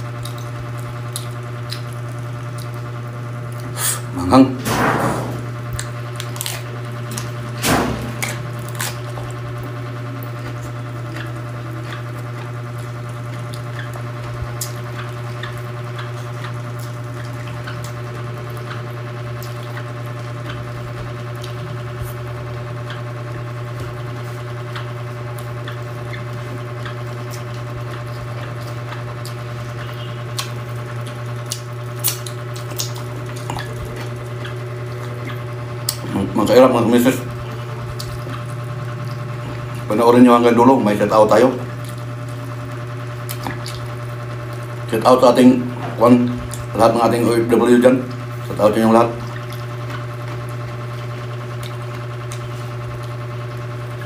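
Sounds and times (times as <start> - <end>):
wet chewing and crunching: 0.0 - 4.1, 5.2 - 54.0
steady low hum: 0.0 - 54.0.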